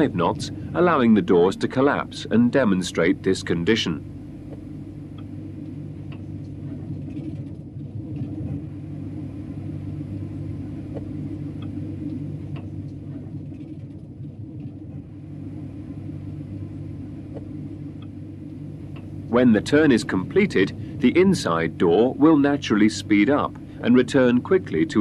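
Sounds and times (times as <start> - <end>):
hum of low tones: 0.0 - 25.0
steady low rumble: 0.0 - 25.0.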